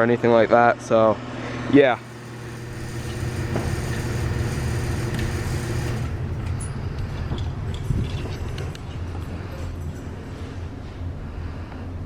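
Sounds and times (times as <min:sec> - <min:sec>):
air conditioner compressor hum: 0:00.0 - 0:12.0
condenser fan whoosh: 0:01.2 - 0:12.0.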